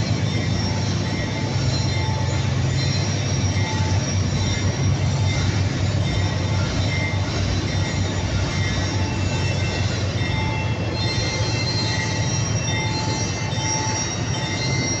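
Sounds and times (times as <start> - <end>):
train rumble: 0.0 - 15.0
train wheels squealing: 0.0 - 15.0.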